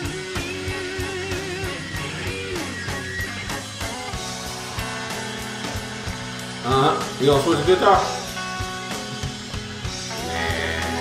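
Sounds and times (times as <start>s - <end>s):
blues electric guitar solo: 0.0s - 11.0s.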